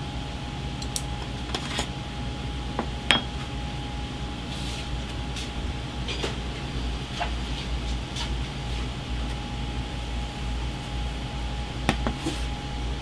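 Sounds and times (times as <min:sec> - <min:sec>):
faint steady whine: 0:00.0 - 0:13.0
low mechanical hum: 0:00.0 - 0:13.0.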